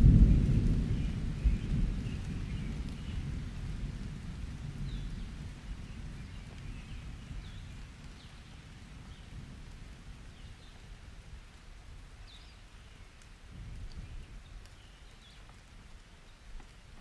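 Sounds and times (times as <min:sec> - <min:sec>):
low rumble of thunder: 0:00.0 - 0:12.6, 0:13.4 - 0:15.4
rain falling: 0:00.0 - 0:17.0.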